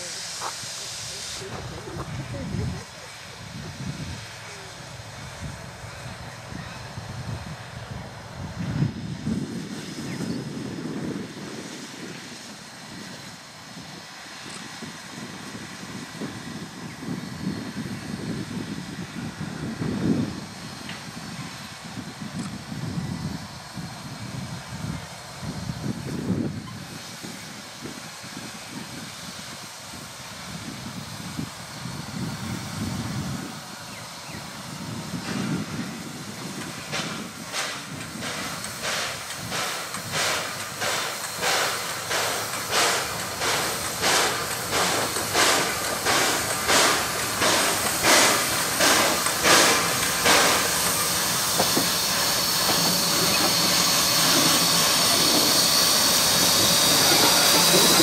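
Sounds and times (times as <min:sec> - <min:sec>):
locomotive low rumble: 0:00.0 - 0:58.0
loud hiss of steam: 0:00.0 - 0:58.0
steam locomotive exhaust chuffs: 0:00.0 - 0:58.0.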